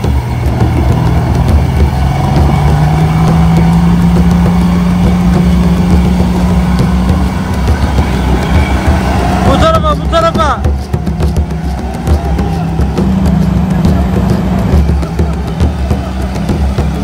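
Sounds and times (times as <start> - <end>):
engine running at high revs: 0.0 - 17.0.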